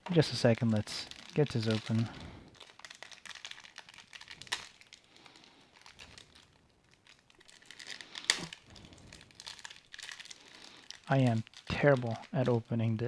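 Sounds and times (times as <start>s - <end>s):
packaging cracking: 0.0s - 13.0s
packaging crinkling: 0.0s - 13.0s.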